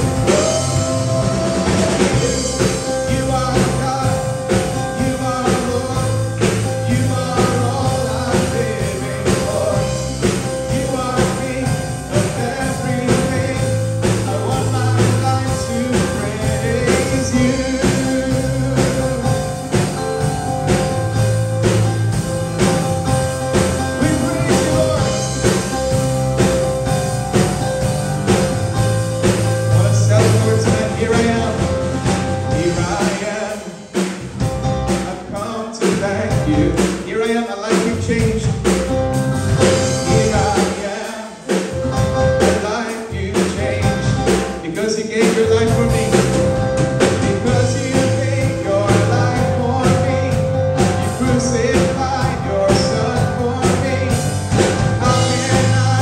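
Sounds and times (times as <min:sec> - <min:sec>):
sustained bass notes: 0:00.0 - 0:37.2, 0:37.8 - 0:41.0, 0:41.6 - 0:44.8, 0:45.4 - 0:56.0
steady drum beat: 0:00.0 - 0:56.0
worship band music: 0:00.0 - 0:56.0.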